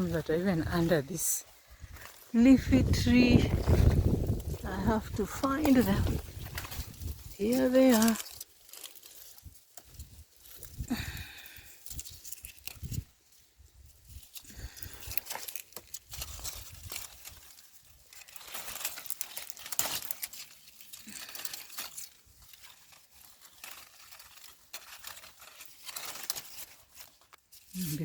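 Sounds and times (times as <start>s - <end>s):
leaves rustling and stems snapping: 0.0s - 28.0s.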